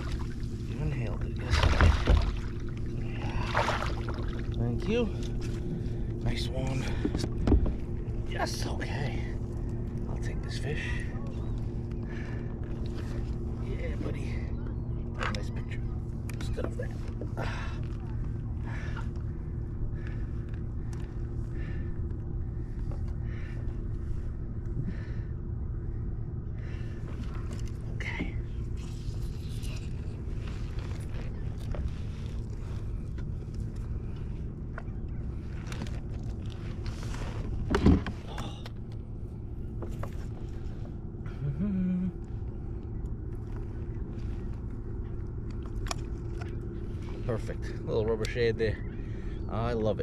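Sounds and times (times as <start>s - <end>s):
boat engine idling: 0.0s - 50.0s
short low hum: 0.0s - 50.0s.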